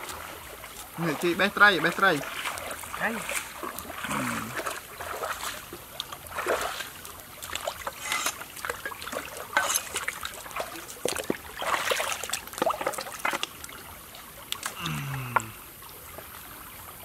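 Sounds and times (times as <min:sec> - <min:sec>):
footsteps splashing through water: 0:00.0 - 0:15.4
stream water trickling: 0:00.0 - 0:17.0.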